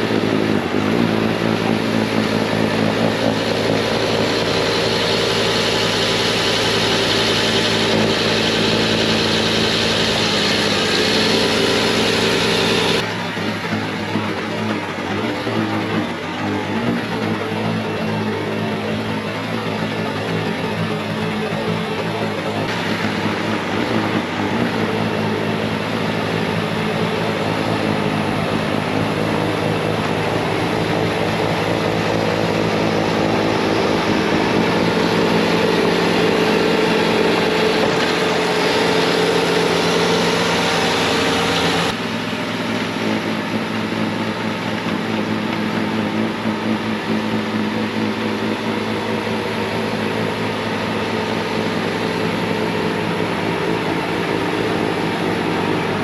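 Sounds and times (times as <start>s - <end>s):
diesel engine running: 0.0s - 56.0s
snowblower hissing: 0.0s - 56.0s.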